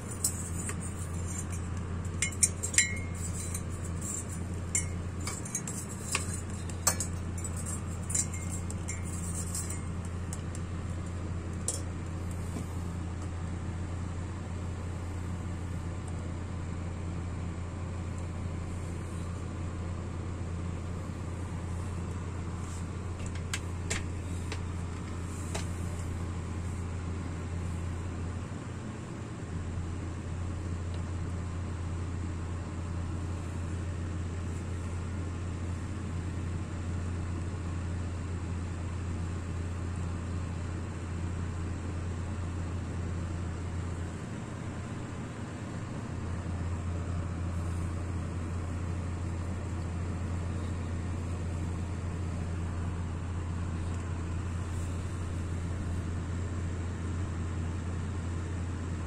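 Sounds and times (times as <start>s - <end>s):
stove burner rumbling: 0.0s - 59.0s.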